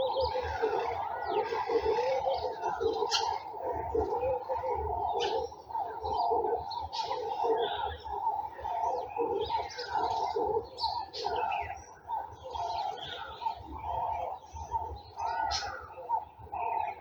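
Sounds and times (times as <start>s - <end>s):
dense low bird calls: 0.0s - 17.0s.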